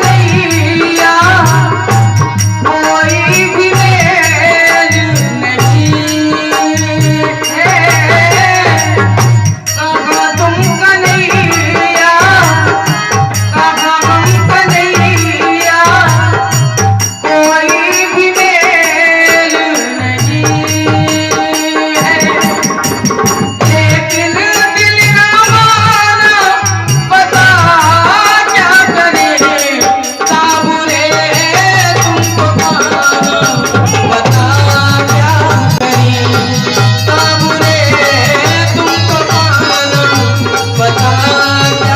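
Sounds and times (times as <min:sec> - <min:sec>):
steady percussion beat: 0:00.0 - 0:41.9.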